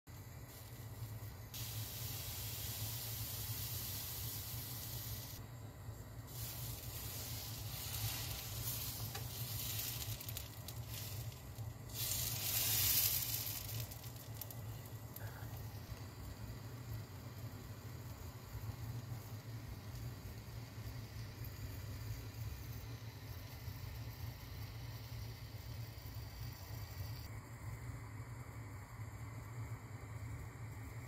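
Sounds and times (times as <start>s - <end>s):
batter sizzling on a pan: 0.1s - 27.3s
steady low hum: 0.1s - 31.0s.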